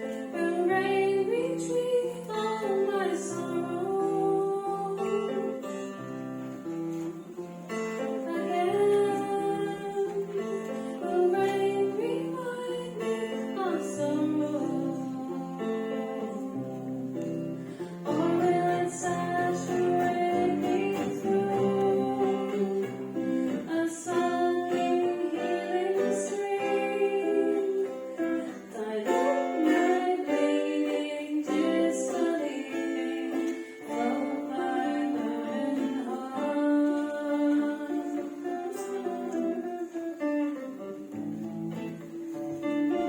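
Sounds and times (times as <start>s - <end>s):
voices singing: 0.0s - 5.9s, 8.0s - 40.0s
strummed acoustic guitar: 0.0s - 43.0s.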